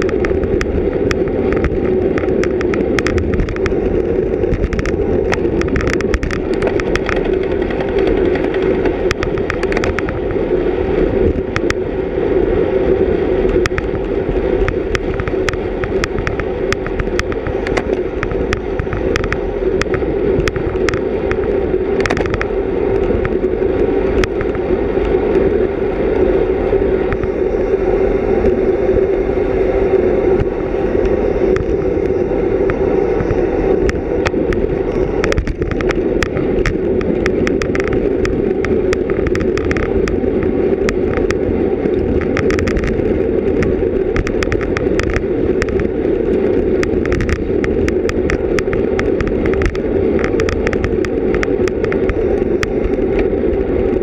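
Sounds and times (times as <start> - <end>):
sharp clicks and ticks: 0.0 - 10.5, 11.2 - 11.8, 13.4 - 25.4, 30.4 - 54.0
wind and road noise: 0.0 - 54.0.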